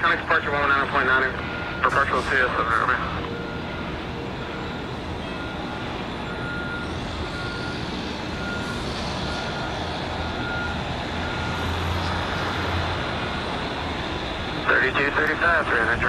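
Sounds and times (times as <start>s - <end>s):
reversing alarm beeping: 0.0s - 16.0s.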